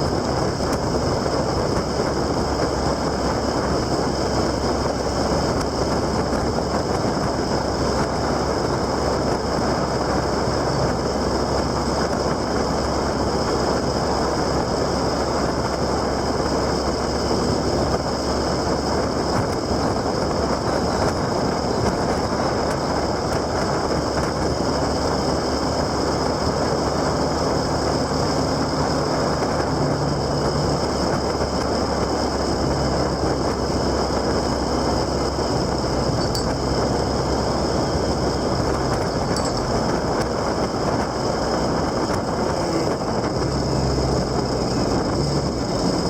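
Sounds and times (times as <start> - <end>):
low engine hum: 0.0 - 46.0
wind and road noise: 0.0 - 46.0.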